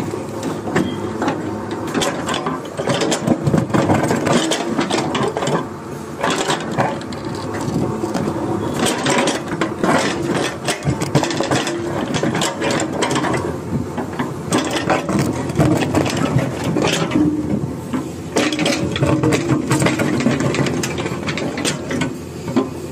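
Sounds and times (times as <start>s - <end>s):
excavator bucket scraping earth: 0.0s - 22.9s
excavator engine running: 0.0s - 22.9s.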